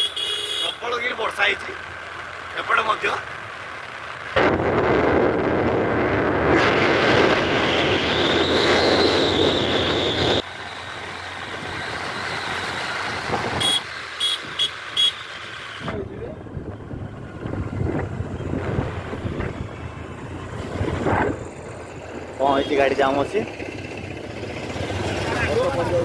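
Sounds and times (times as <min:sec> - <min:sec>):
vehicle and road noise: 0:00.0 - 0:26.0.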